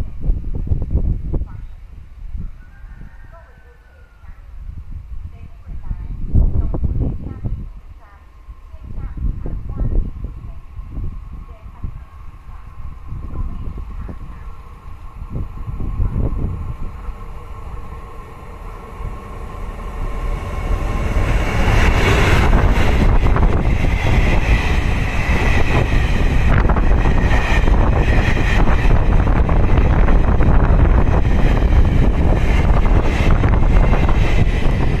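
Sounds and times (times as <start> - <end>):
train wheels rushing on rail: 5.7 - 35.0.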